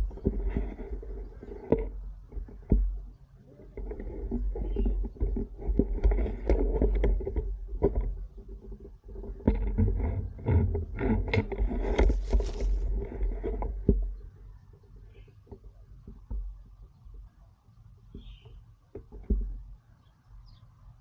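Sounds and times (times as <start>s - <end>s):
foliage rustling against microphone: 0.0s - 17.2s.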